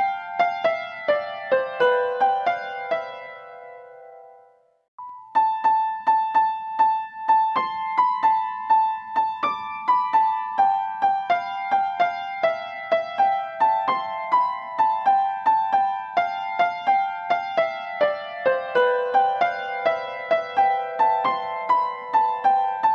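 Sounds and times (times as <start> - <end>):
piano melody: 0.0 - 22.9.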